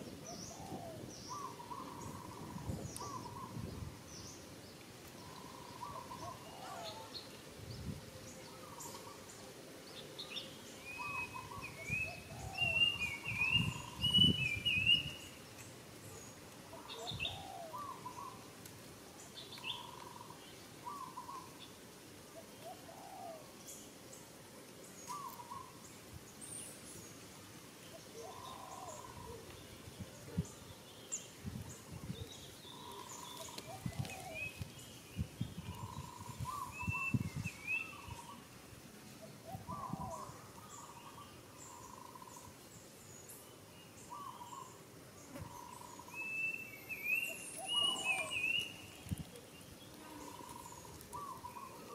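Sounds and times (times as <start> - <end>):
bird warbling song: 0.0 - 18.5, 19.2 - 21.8, 25.0 - 27.2, 27.9 - 38.5, 39.2 - 51.9.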